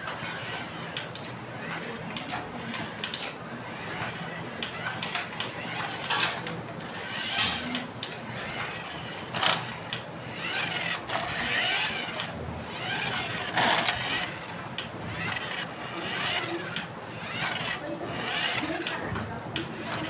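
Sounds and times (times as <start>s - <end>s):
toy car motor whirring: 0.2s - 20.0s
sharp clicks and scrapes: 0.4s - 20.0s.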